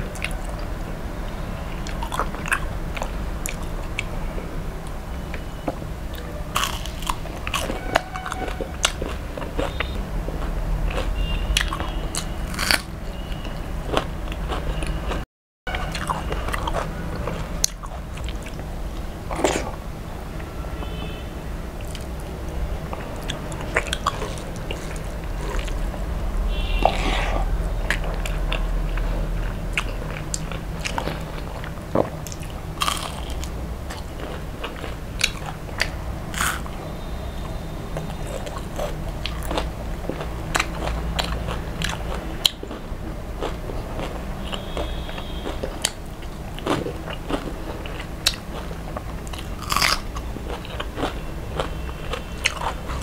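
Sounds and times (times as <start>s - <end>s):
person chewing crispy food: 1.8s - 4.2s, 6.1s - 19.8s, 21.8s - 36.8s, 38.0s - 53.0s.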